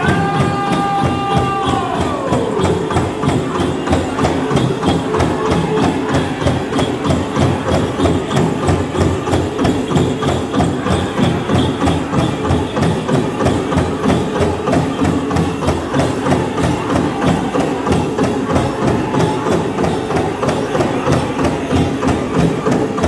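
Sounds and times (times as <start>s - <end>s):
big drum steady beat: 0.0s - 23.0s.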